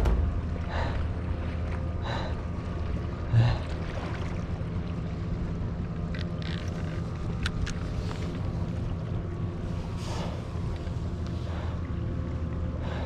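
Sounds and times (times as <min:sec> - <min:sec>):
boat engine droning: 0:00.0 - 0:13.0
sea noise: 0:00.0 - 0:13.0
wind: 0:00.0 - 0:13.0.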